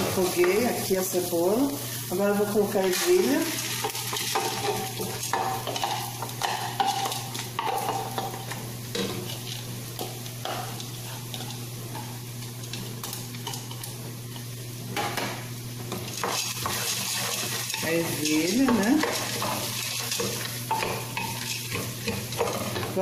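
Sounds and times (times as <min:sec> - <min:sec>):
onion sizzling in oil: 0:00.0 - 0:23.0.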